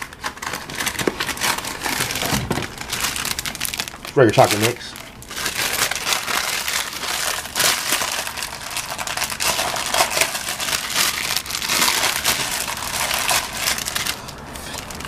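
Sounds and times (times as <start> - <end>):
crackles: 0.0 - 15.0
packet crinkling and rustling: 0.0 - 15.0.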